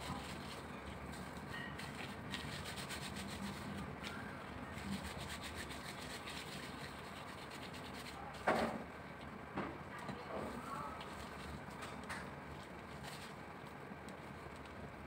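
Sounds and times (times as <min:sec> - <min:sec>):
gloved hands rolling meat: 0:00.0 - 0:15.0.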